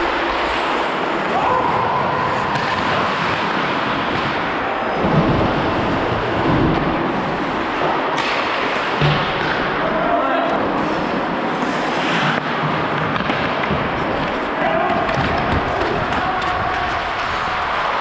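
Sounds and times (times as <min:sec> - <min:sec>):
skates rushing on ice: 0:00.0 - 0:18.0.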